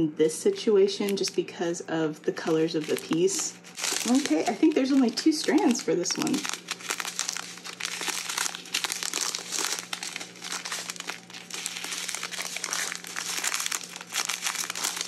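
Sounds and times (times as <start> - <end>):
faint low hum: 0.0 - 15.0
plastic bags crinkling: 2.4 - 15.0.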